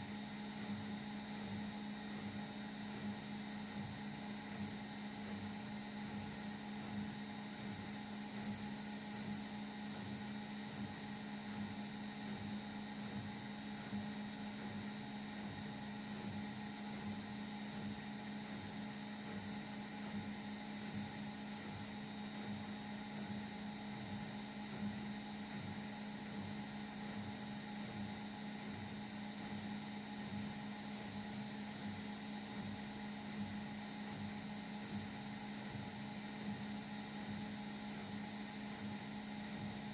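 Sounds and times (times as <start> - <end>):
washing machine electrical hum: 0.0 - 39.9.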